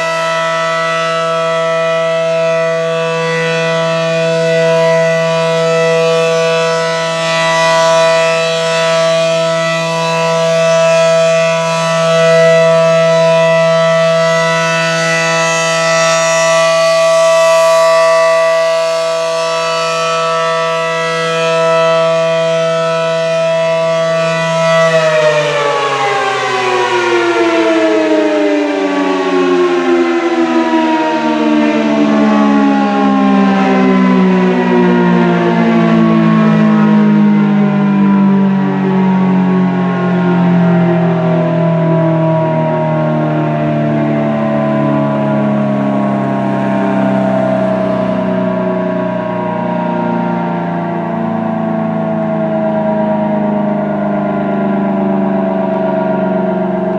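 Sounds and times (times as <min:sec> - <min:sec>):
rotating warning siren: 0:00.0 - 0:56.9.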